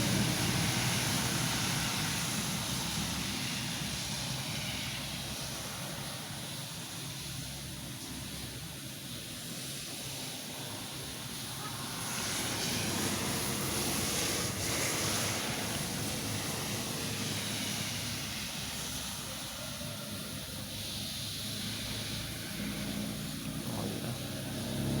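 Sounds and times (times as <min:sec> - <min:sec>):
rain falling steadily: 0:00.0 - 0:25.0.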